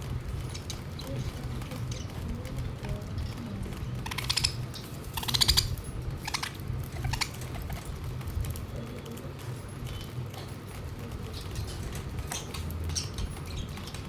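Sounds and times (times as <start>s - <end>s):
steady low hum: 0.0s - 14.0s
budgies clicking rapidly: 0.1s - 14.0s.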